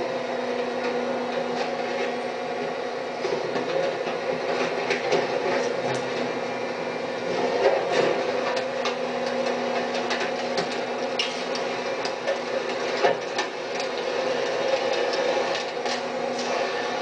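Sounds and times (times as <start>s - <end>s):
hydraulic hum of packer: 0.0s - 17.0s.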